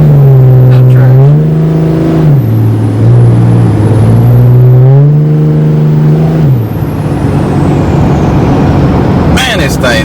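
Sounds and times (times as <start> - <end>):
diesel truck engine accelerating: 0.0 - 10.0.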